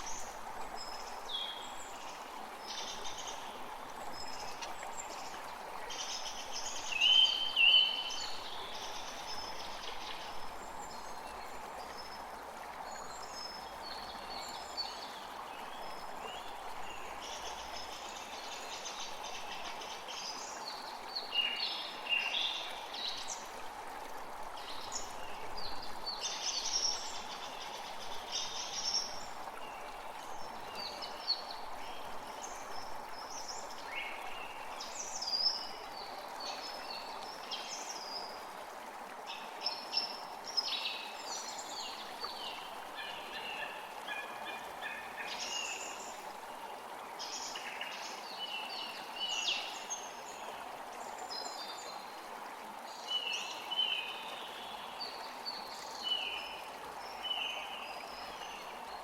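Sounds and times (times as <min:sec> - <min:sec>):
creek running: 0:00.0 - 0:59.0.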